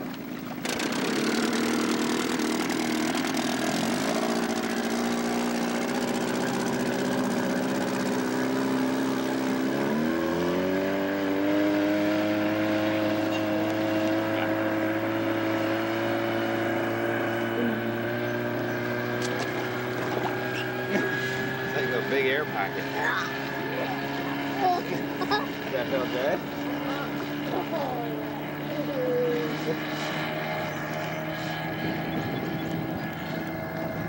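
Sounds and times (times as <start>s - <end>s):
motorboat engine speeding up: 0.0s - 34.0s.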